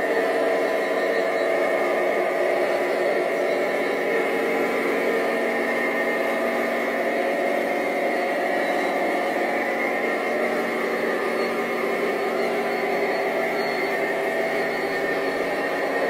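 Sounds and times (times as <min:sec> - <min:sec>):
model loader mechanical whir: 0:00.0 - 0:16.0.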